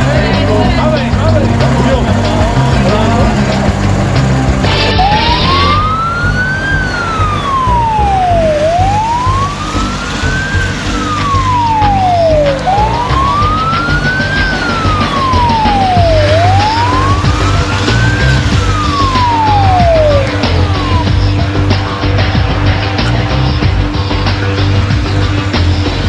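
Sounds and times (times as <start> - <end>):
fire engine siren wailing: 0.0 - 26.0
low rumble: 0.0 - 26.0.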